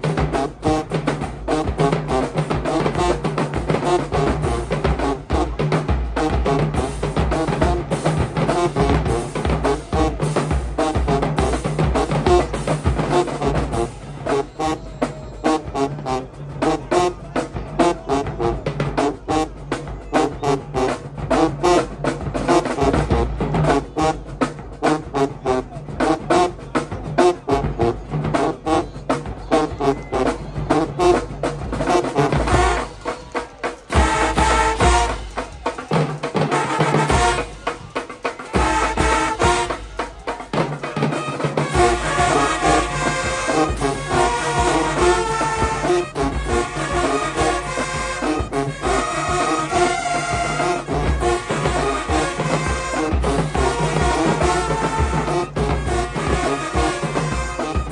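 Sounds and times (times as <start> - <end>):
brass: 0.0 - 57.9
rapid driving drums: 0.0 - 57.9.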